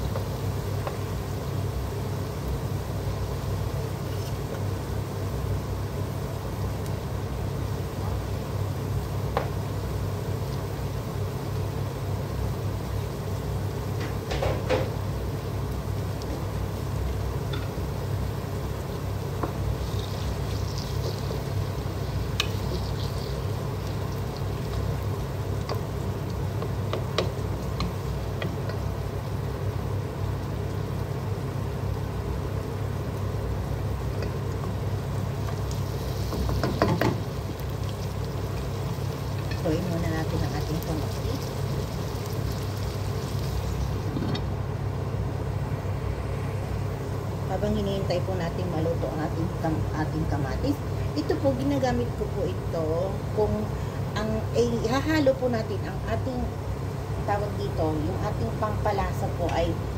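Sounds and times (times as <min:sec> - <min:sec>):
faint sizzling: 0:00.0 - 0:59.9
pot cooking on gas stove: 0:00.0 - 0:59.9.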